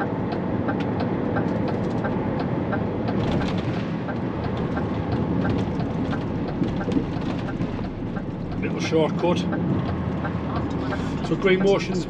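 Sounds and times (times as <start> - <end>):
road noise: 0.0 - 12.0
truck engine: 0.0 - 12.0
turn indicator ticking: 0.0 - 12.0.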